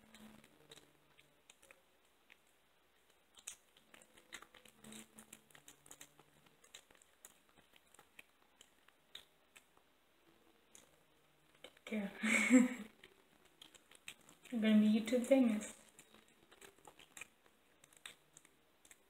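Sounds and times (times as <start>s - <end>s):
kitten chewing and licking: 0.0s - 19.0s.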